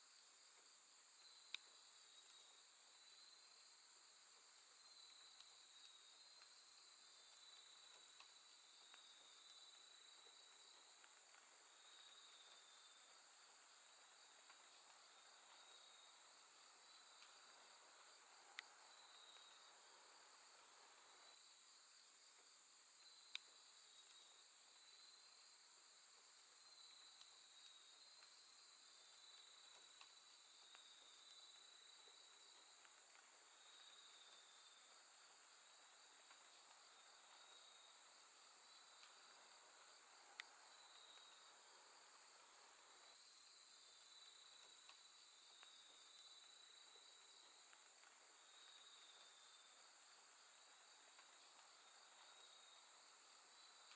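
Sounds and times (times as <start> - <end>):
crickets and insects chirping: 0.0 - 53.9.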